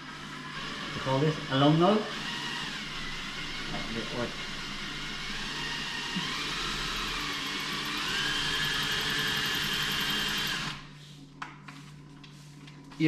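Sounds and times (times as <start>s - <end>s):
electric drill whining: 0.0s - 10.9s.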